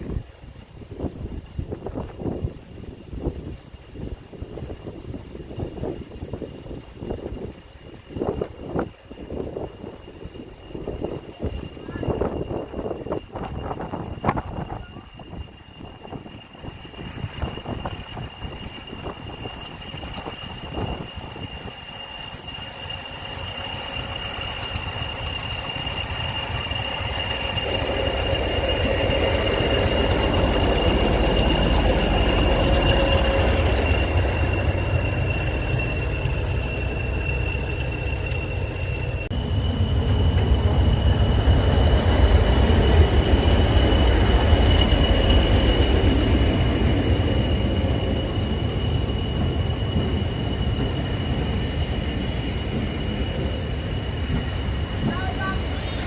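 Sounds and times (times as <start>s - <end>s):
train rumbling on rails: 0.0s - 56.0s
high-pitched squeal: 3.4s - 56.0s.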